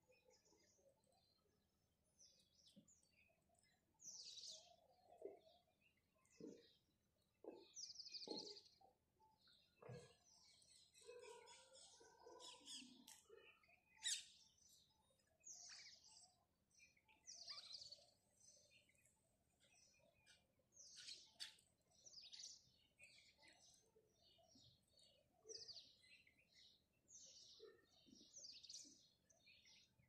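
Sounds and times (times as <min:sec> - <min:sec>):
sparrows chirping: 0:00.0 - 0:30.0.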